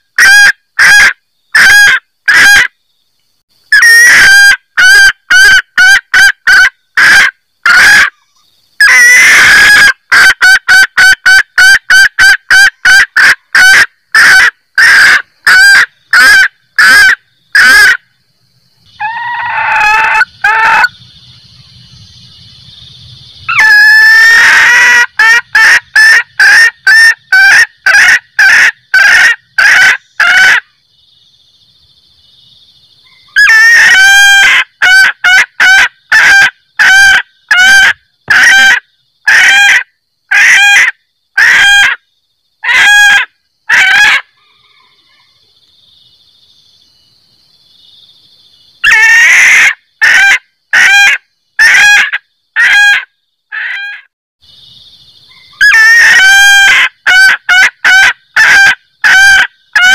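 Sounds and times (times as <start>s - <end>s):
junglefowl cackling: 0.0s - 2.8s, 3.7s - 18.0s, 18.9s - 21.0s, 23.5s - 30.7s, 33.0s - 42.0s, 42.6s - 45.4s, 48.8s - 54.1s, 55.3s - 59.9s.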